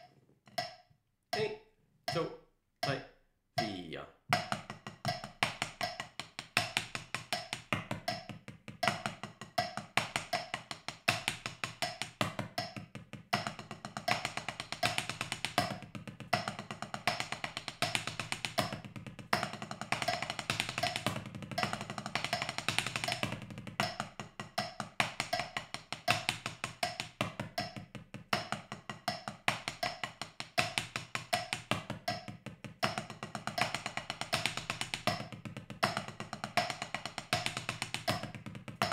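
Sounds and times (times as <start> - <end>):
drumsticks tapping practice pad: 0.0 - 38.9.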